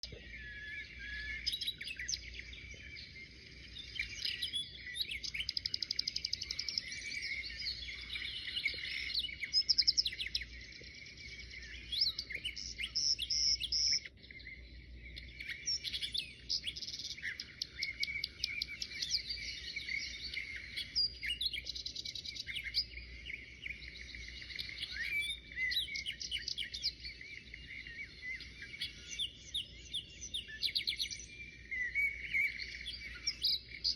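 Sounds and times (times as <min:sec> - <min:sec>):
birds chirping and trilling: 0:00.0 - 0:33.9.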